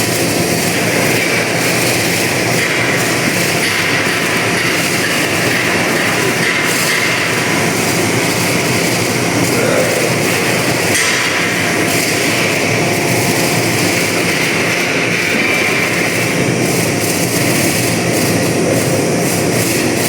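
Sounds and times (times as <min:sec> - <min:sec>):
machinery rushing noise: 0:00.0 - 0:20.0.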